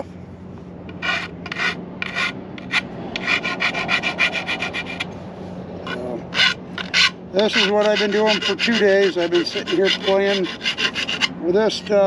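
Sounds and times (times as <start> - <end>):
file scraping metal: 0.9 - 5.1, 5.8 - 12.0.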